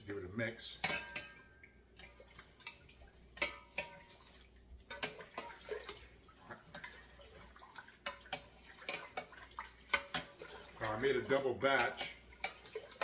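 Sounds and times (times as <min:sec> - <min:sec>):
liquid sloshing: 0:00.8 - 0:13.0.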